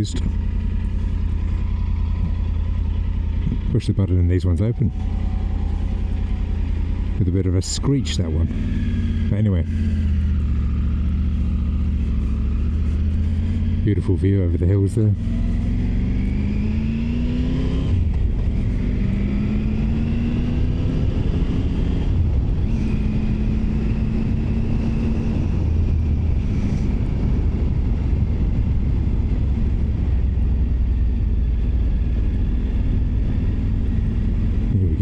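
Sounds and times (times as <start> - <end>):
motorcycle engine accelerating: 0.0 - 35.0
wind and road noise: 0.0 - 35.0.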